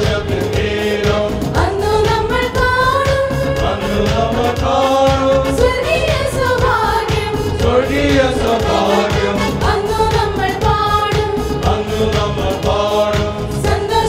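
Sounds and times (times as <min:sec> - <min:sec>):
men singing through microphones: 0:00.0 - 0:14.0.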